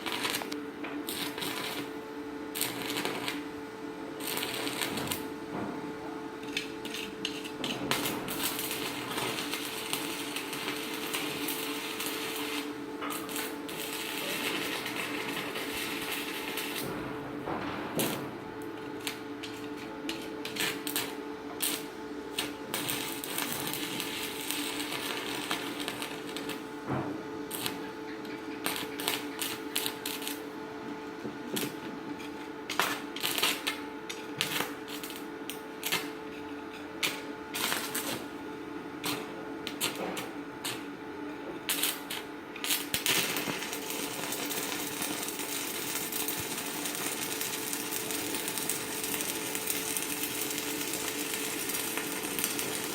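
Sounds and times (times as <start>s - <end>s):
welding arc crackling and snapping: 0.0s - 38.4s, 39.0s - 52.9s
welder steady hum: 0.0s - 52.9s.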